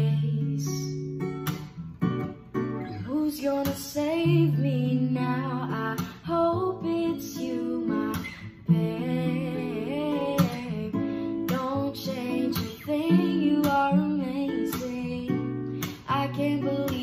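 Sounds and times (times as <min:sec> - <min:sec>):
person singing: 0:00.0 - 0:01.1, 0:02.9 - 0:17.0
strummed acoustic guitar: 0:00.0 - 0:17.0.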